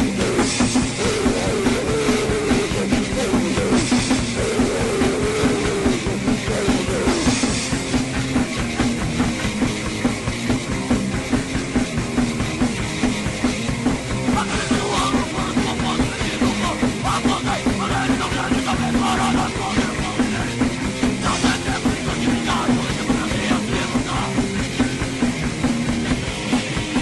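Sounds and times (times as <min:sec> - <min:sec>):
fast rock music: 0:00.0 - 0:27.0
rapid drumming: 0:00.0 - 0:27.0.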